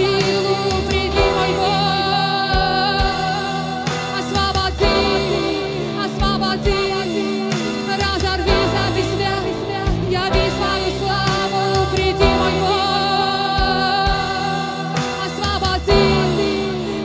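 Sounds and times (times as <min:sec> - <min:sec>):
drums with steady beat: 0:00.0 - 0:17.0
electric guitar: 0:00.0 - 0:17.0
keyboard: 0:00.0 - 0:17.0
person singing: 0:00.0 - 0:17.0.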